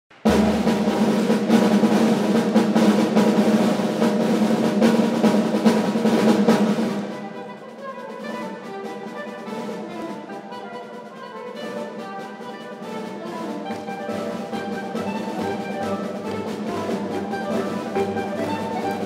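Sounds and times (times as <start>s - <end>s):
drum kit playing: 0.1s - 19.0s.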